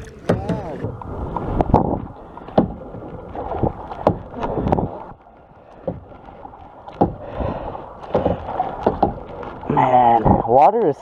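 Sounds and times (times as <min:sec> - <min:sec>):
paddle splashing in water: 0:00.0 - 0:11.0.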